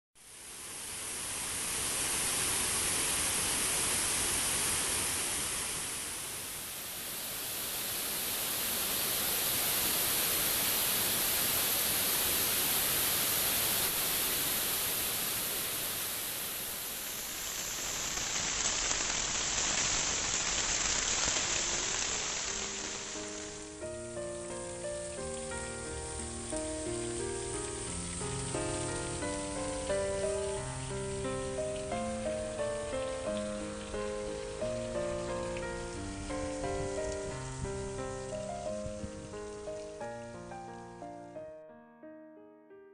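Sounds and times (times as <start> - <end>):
waterfall rushing: 0.2 - 39.7.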